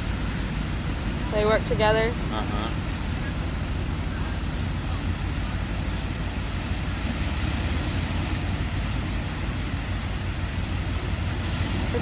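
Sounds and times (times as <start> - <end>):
waves breaking on beach: 0.0 - 12.0
wind noise on microphone: 0.0 - 12.0.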